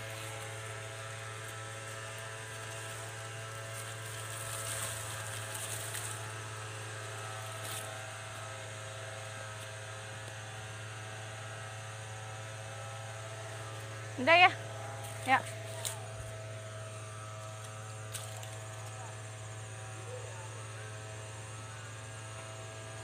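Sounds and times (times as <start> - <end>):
rustling of leaves and grass: 0.0 - 23.0
steady low hum: 0.0 - 23.0.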